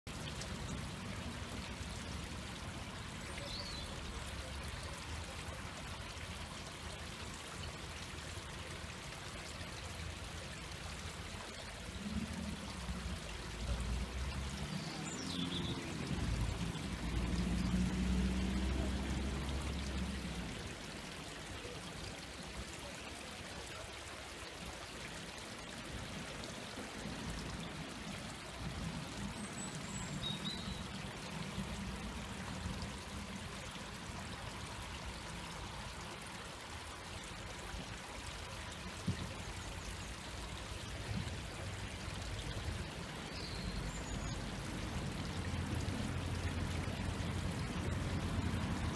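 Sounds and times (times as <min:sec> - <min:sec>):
stream babbling over weir: 0:00.1 - 0:48.9.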